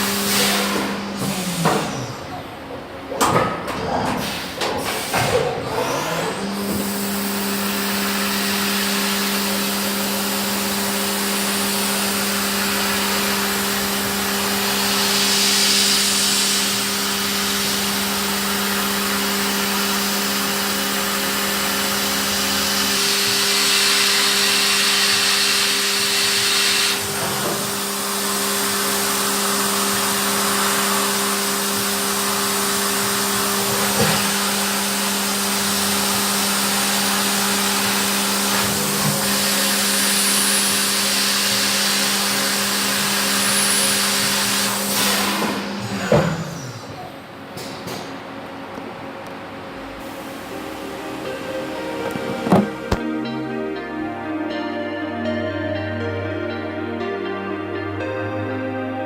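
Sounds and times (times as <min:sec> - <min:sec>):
milling machine hum: 0:00.0 - 0:54.7.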